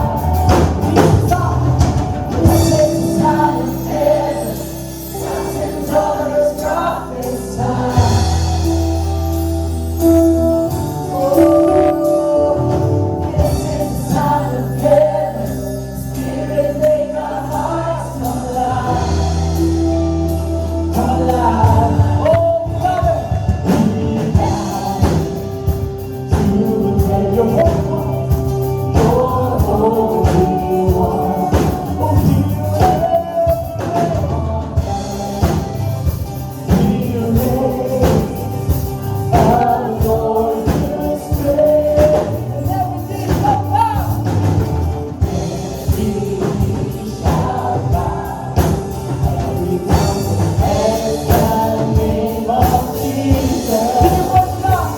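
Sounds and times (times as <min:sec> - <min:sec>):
worship band and singers: 0:00.0 - 0:54.9.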